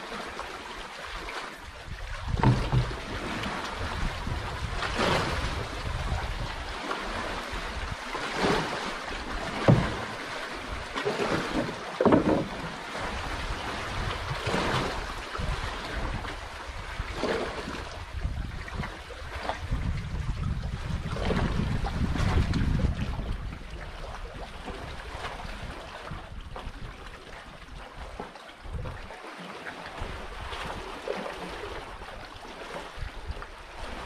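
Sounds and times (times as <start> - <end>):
sea water lapping around canoe: 0.0 - 34.0
wind rumbling on microphone: 1.1 - 29.2, 29.9 - 34.0.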